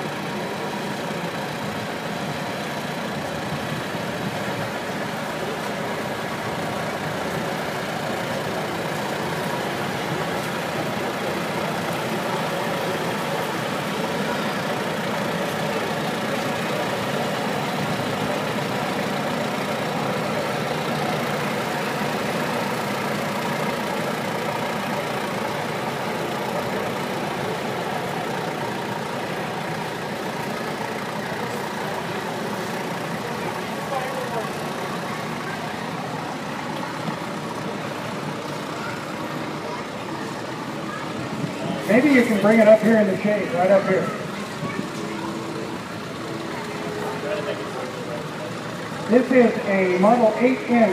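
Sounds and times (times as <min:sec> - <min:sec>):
tractor engines running: 0:00.0 - 0:50.9.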